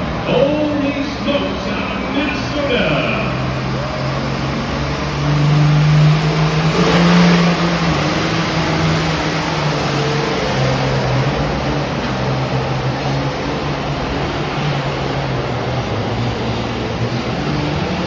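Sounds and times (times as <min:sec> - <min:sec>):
diesel tractor engine under load: 0:00.0 - 0:17.4.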